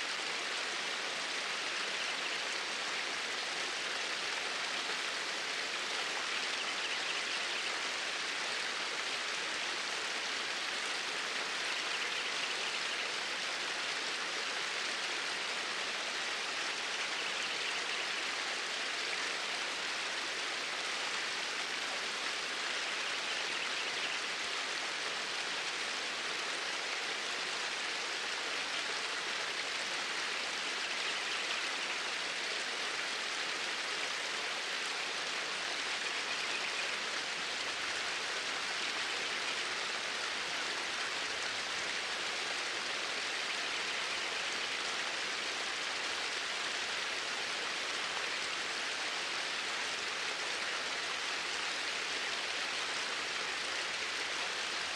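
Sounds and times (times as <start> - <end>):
stream flowing: 0.0 - 54.9.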